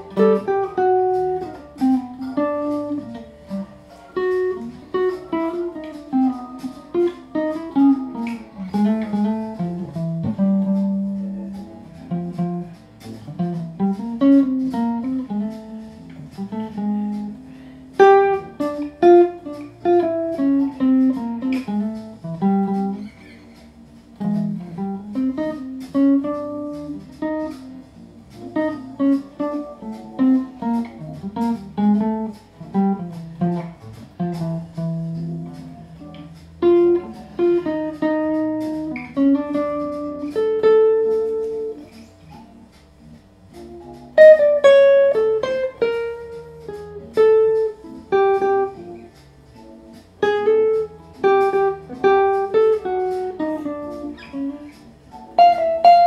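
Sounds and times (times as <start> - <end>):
backing track: 0.0 - 56.0
hollow-body guitar melody: 0.0 - 56.0.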